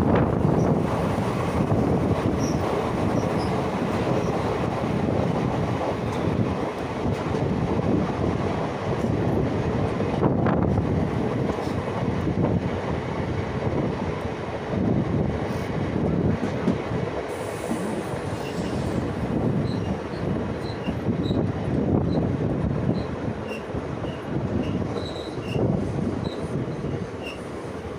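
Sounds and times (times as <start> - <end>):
train wheels rumbling and rattling: 0.0 - 27.9.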